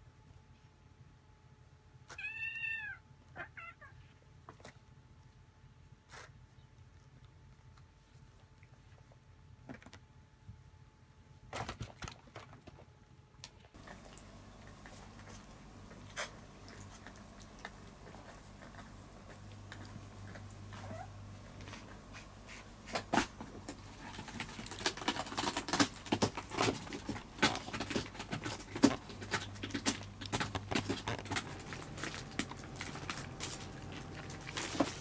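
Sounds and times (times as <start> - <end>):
low steady hum: 0.0 - 35.0
kitten crunching dry kibble: 4.3 - 10.1, 11.6 - 35.0.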